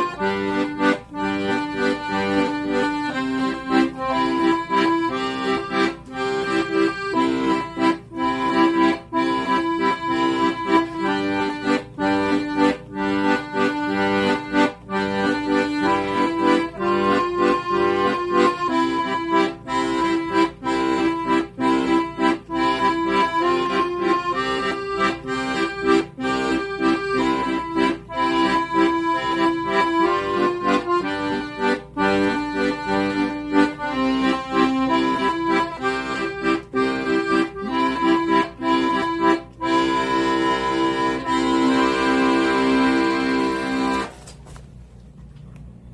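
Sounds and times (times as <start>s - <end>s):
accordion playing a tune: 0.0s - 44.4s.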